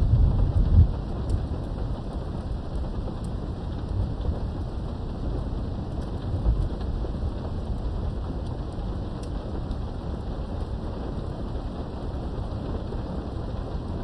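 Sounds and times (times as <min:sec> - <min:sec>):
raindrop ticks: 0:00.0 - 0:14.0
rumble of thunder: 0:00.0 - 0:14.0
steady rain: 0:00.0 - 0:14.0.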